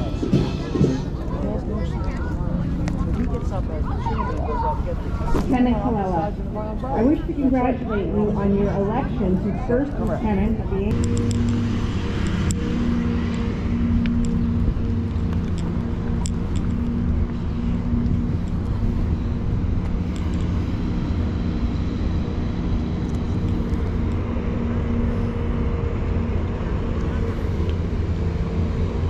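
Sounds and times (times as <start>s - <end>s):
engine drone: 0.0s - 29.0s
low rumble: 0.0s - 29.0s.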